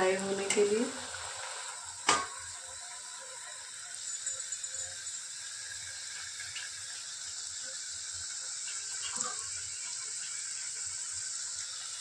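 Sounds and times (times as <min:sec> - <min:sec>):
oil sizzling and bubbling: 0:00.0 - 0:12.0.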